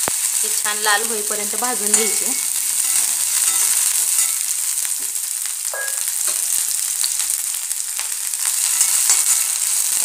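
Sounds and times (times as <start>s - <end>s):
peppers sizzling in hot oil: 0.0s - 10.0s.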